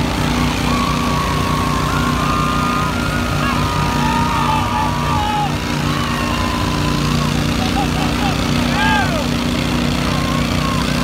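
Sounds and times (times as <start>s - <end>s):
high whines gliding: 0.0s - 11.0s
small engines running hard: 0.0s - 11.0s.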